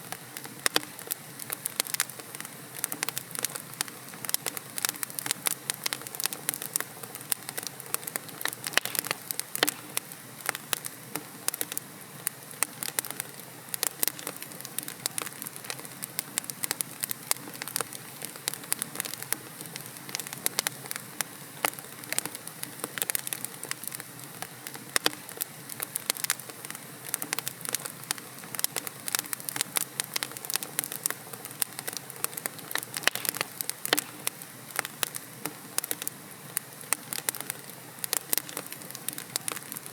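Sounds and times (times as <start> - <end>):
soft fire hiss: 0.0 - 39.9
wood fire crackling and popping: 0.0 - 39.9.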